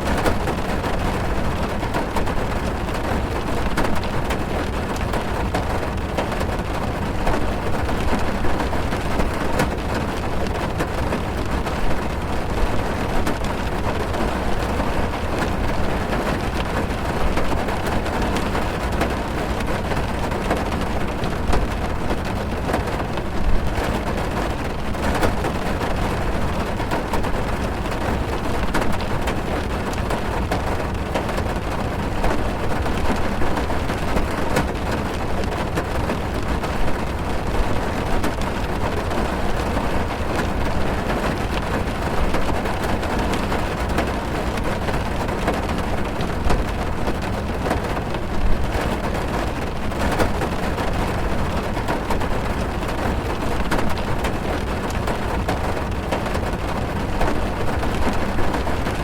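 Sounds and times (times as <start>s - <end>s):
heavy rain on car roof: 0.0s - 59.0s.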